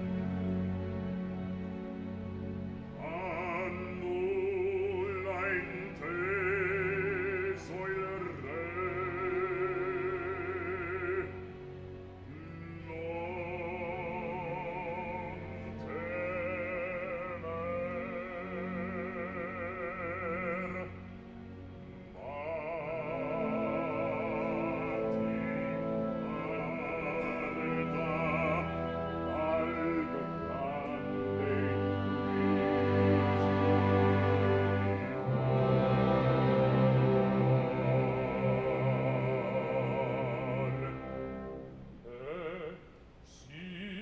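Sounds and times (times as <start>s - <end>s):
orchestral accompaniment: 0.0s - 42.8s.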